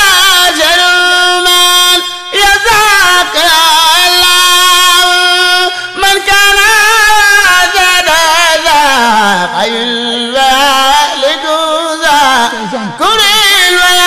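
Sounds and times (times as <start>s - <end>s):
man singing devotional poem: 0.0s - 14.0s.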